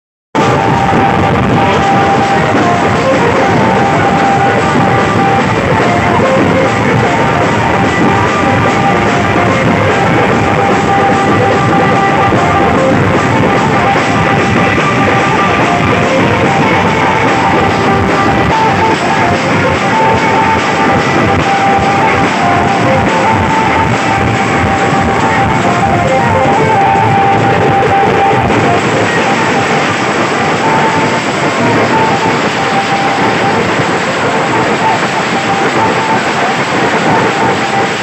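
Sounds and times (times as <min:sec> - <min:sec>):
loud music with steady beat: 0:00.4 - 0:38.0.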